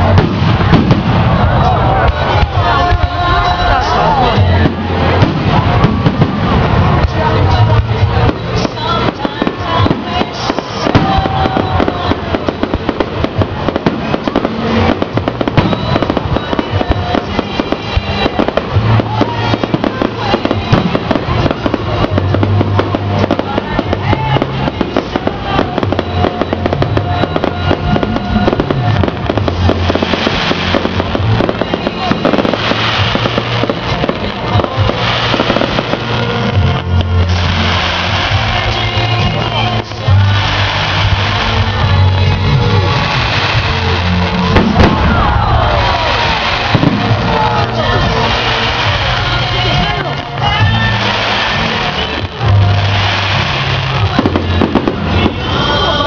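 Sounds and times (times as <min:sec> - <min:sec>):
fireworks launching and bursting: 0:00.0 - 0:56.0
music with steady bass line: 0:00.0 - 0:56.0.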